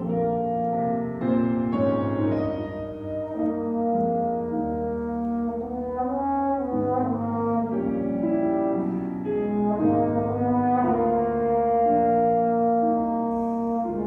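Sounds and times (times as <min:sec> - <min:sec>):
brass instrument melody: 0:00.0 - 0:14.0.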